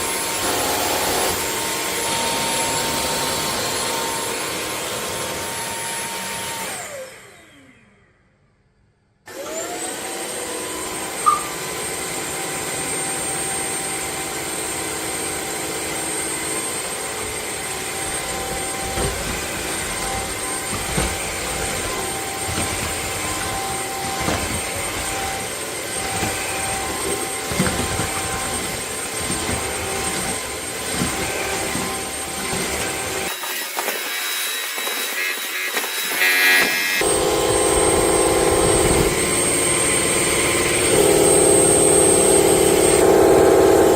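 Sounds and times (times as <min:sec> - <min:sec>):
vacuum cleaner motor whine: 0:00.0 - 0:08.7, 0:09.3 - 0:43.9.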